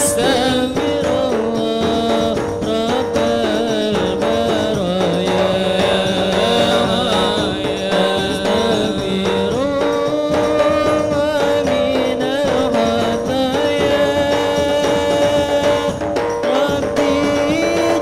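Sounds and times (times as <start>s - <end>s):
frame drums and hand drums beating: 0.0s - 18.0s
person singing: 0.0s - 18.0s.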